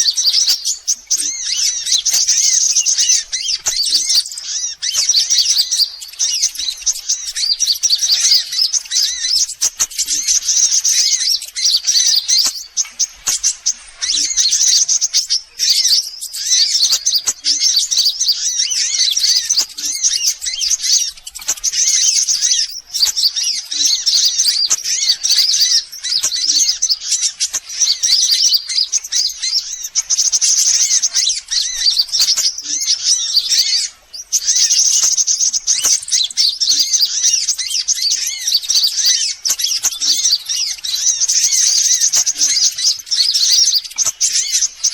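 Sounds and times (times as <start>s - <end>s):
birds chirping and twittering: 0.0s - 44.9s.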